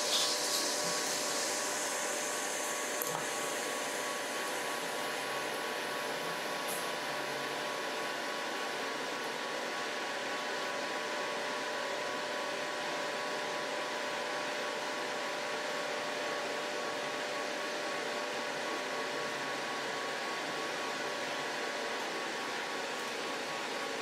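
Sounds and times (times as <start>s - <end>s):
cooling fan and pump whirring: 0.0s - 24.0s.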